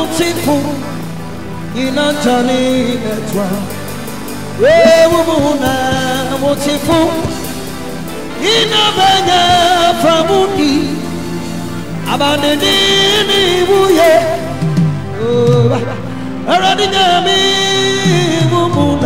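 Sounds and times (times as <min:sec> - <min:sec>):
instrumental backing: 0:00.0 - 0:19.0.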